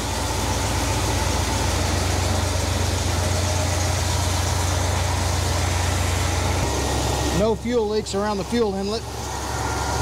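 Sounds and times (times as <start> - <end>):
car engine fast idling: 0.0 - 10.0.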